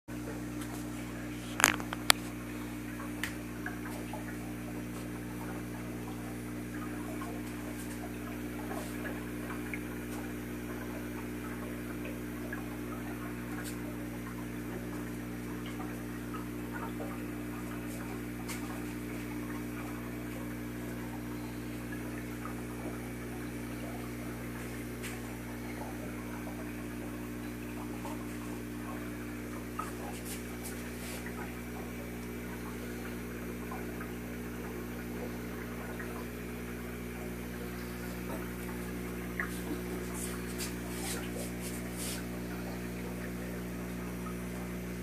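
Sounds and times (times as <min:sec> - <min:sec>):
air pump humming: 0:00.1 - 0:45.0
filter bubbling: 0:00.1 - 0:45.0.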